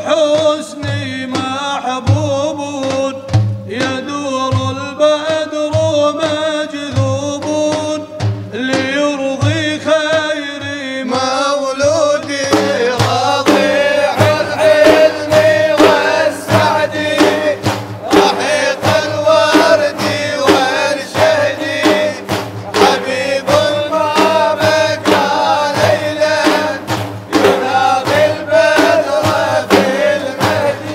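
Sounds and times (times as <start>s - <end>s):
frame drums beating: 0.0s - 30.9s
man singing religious song: 0.0s - 30.9s.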